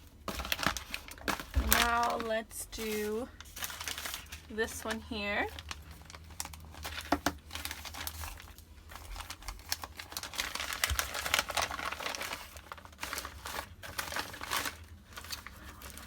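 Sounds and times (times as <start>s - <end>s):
wrapping paper crinkling and tearing: 0.0s - 16.0s.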